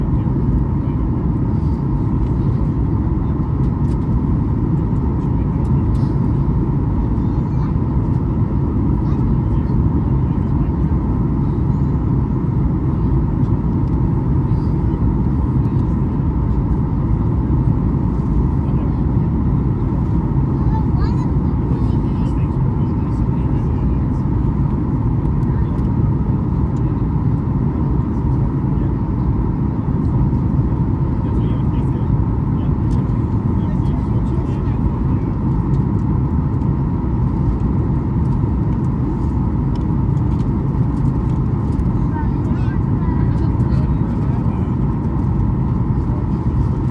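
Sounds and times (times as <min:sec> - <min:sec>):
airplane cabin rumble: 0:00.0 - 0:46.9.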